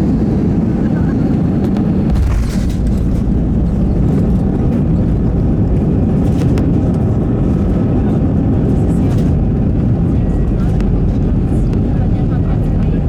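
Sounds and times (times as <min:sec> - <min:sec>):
aircraft engines and wheels rumbling: 0:00.0 - 0:13.0.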